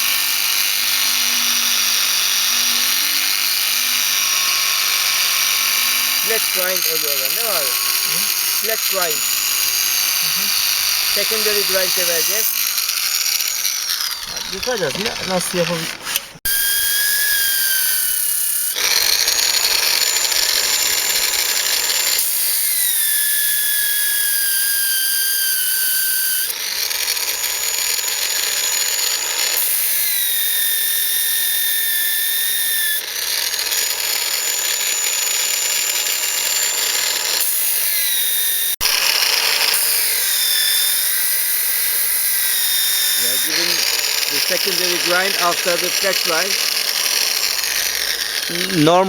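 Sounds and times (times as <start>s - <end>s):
electric grinder grinding steel: 0.0s - 49.0s.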